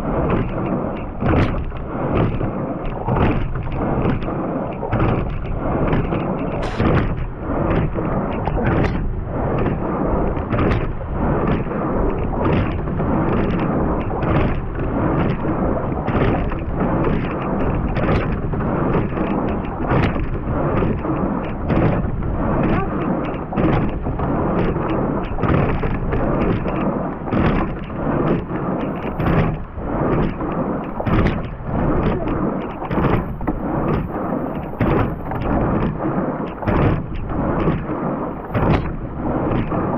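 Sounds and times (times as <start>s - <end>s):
oars knocking in oarlocks: 0.0s - 39.8s
water rushing past boat: 0.0s - 39.9s
wind buffeting microphone: 0.0s - 39.9s.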